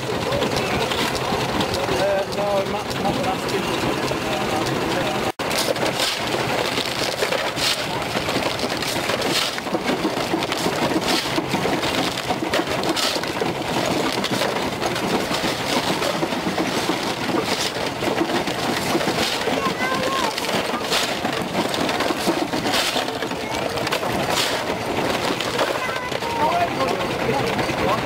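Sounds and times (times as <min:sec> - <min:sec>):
stone crusher crunching bricks: 0:00.0 - 0:28.0.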